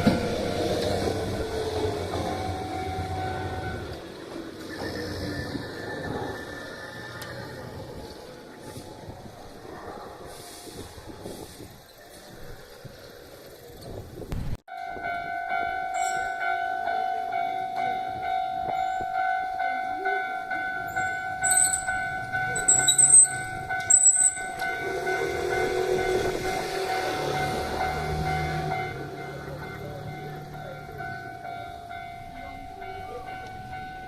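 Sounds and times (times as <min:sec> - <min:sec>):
level-crossing warning bell ringing: 0:00.0 - 0:09.4, 0:14.7 - 0:34.0
train running rumble: 0:00.0 - 0:14.3, 0:17.2 - 0:34.0.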